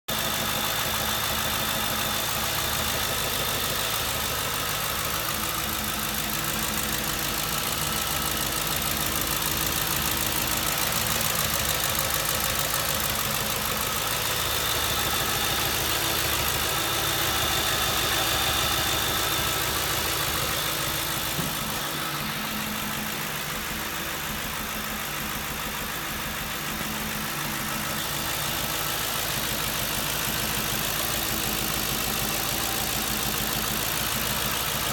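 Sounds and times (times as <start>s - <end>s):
car engine idling with misfire: 0.1s - 34.9s.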